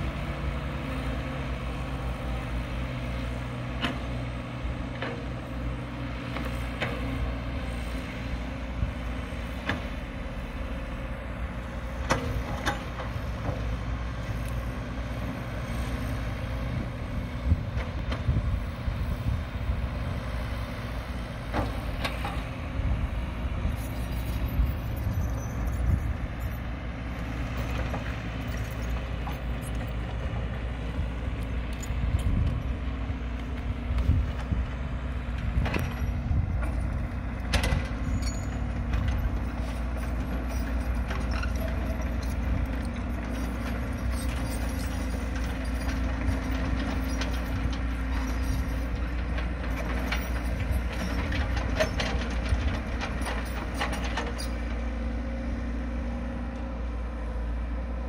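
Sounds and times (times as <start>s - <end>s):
dump trucks running: 0.0s - 58.0s
excavator diesel engine: 0.0s - 58.0s.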